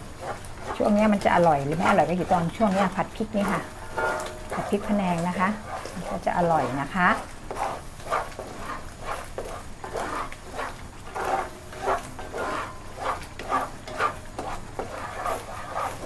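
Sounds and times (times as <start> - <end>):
paste frying: 0.0 - 16.0
spatula scraping in a pan: 0.0 - 16.0.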